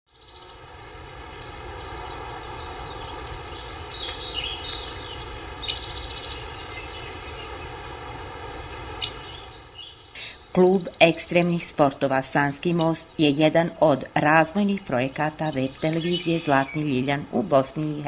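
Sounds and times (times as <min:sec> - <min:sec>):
birds chirping: 0:00.1 - 0:18.0
rushing outdoor ambience: 0:00.1 - 0:18.0.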